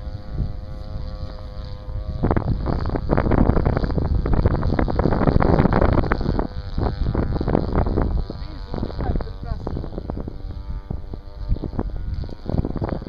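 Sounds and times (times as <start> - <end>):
distant model plane engine droning: 0.0 - 13.0
wind buffeting on microphone: 0.0 - 13.0.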